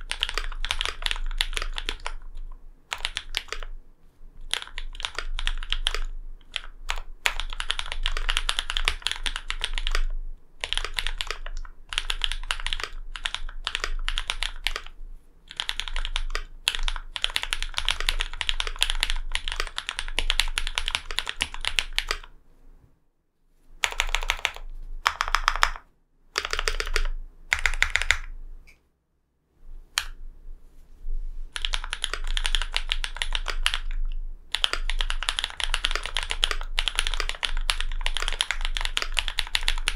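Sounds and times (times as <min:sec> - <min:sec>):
mechanical keyboard typing: 0:00.0 - 0:03.7, 0:04.4 - 0:22.3, 0:23.8 - 0:25.8, 0:26.4 - 0:28.3, 0:31.5 - 0:39.9.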